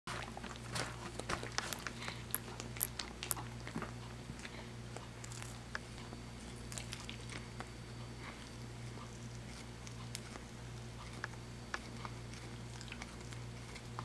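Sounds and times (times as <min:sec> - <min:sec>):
cat chewing a treat: 0:00.1 - 0:14.0
steady low hum: 0:00.1 - 0:14.0.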